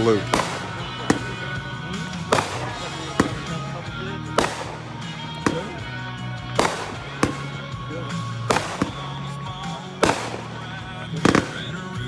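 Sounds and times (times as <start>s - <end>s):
fireworks bangs: 0.0s - 12.0s
music playing: 0.0s - 12.0s.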